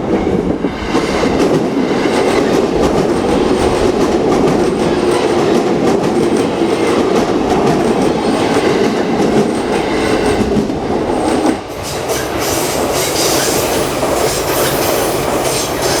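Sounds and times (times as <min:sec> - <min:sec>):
electric train wheels on rails: 0:00.0 - 0:16.0.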